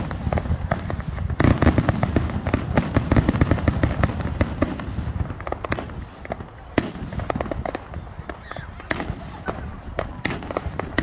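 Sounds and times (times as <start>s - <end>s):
fireworks cracks and bangs: 0.0s - 11.0s.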